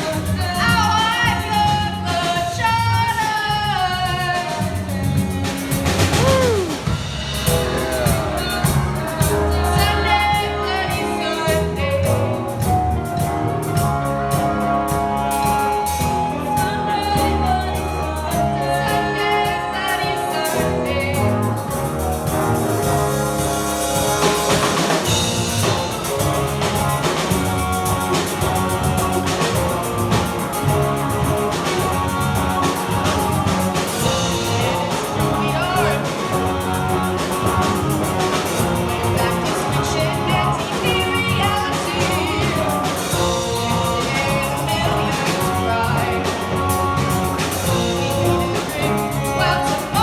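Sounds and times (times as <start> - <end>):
lead singer singing: 0.0 - 13.4, 15.3 - 23.0, 23.9 - 50.0
drum kit: 0.0 - 50.0
rock band playing: 0.0 - 50.0.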